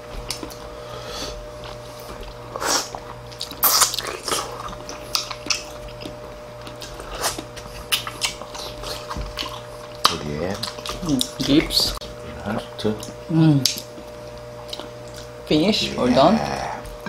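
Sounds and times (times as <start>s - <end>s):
wet chewing and smacking: 0.0s - 0.7s, 1.6s - 15.4s
faint steady hum: 0.0s - 17.0s.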